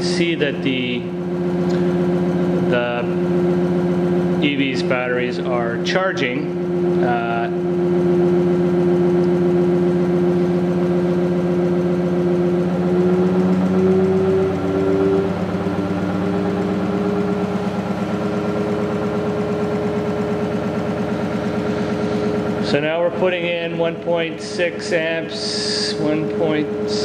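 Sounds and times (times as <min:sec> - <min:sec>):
stepper motor humming: 0:00.0 - 0:27.0.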